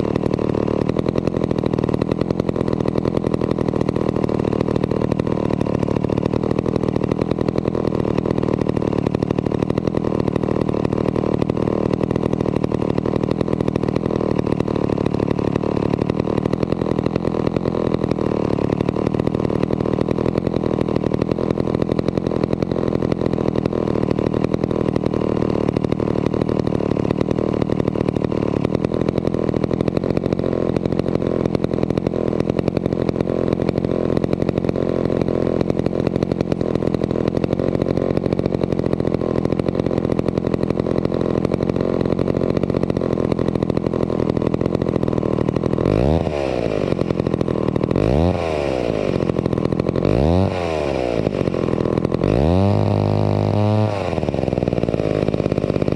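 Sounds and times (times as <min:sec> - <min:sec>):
chainsaw idling and revving: 0:00.0 - 0:55.9.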